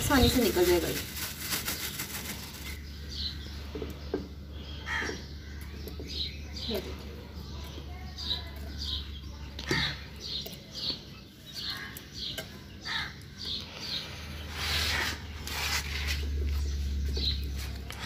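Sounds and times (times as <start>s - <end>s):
birds chirping: 0.0s - 18.0s
low steady hum: 2.0s - 18.0s.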